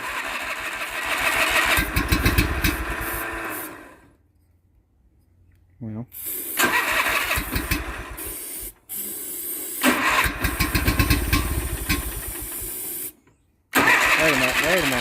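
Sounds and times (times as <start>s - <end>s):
engine cranking on electric starter: 0.0s - 4.1s, 6.2s - 15.0s.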